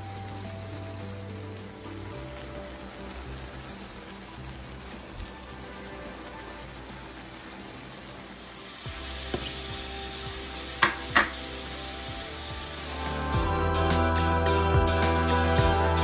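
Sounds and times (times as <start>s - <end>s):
chicken and onion sizzling: 0.0s - 16.0s.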